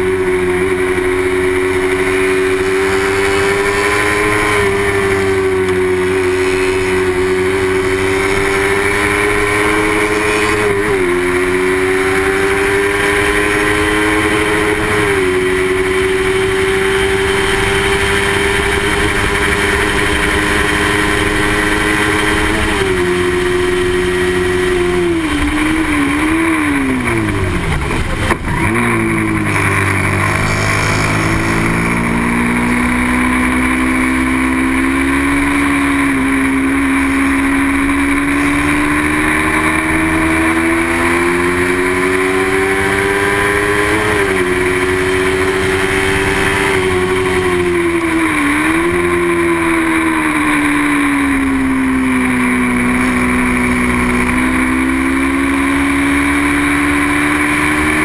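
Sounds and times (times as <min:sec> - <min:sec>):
racing motorcycle engine revving: 0:00.0 - 0:58.0.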